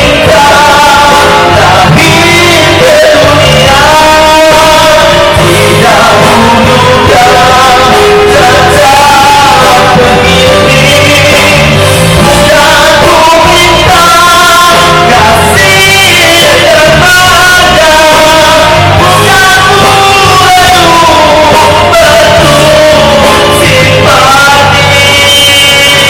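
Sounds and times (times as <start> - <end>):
lead singer holding long notes: 0.0 - 26.0
rock band playing: 0.0 - 26.0.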